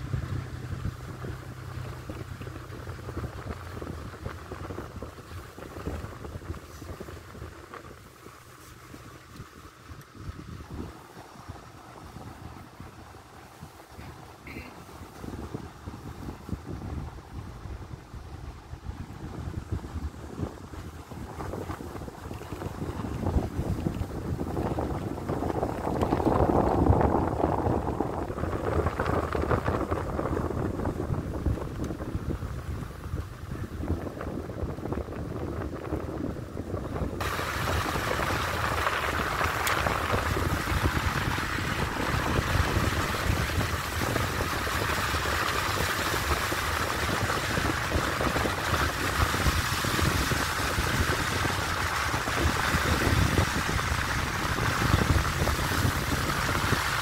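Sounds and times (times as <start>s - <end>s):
car cabin rumble: 0.0s - 57.0s
tyres crackling on snow: 0.0s - 57.0s
wind on microphone: 0.0s - 57.0s.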